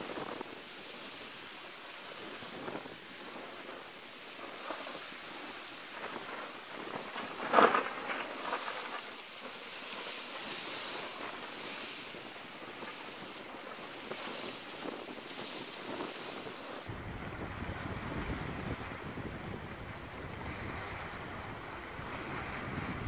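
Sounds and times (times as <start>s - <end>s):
lake waves: 0.0s - 23.0s
wind buffeting microphone: 0.0s - 23.0s.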